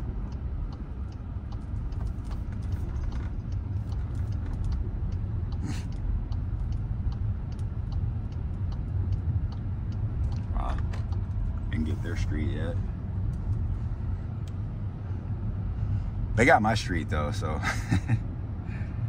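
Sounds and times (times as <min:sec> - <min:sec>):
road and tyre rumble in car: 0:00.0 - 0:19.0.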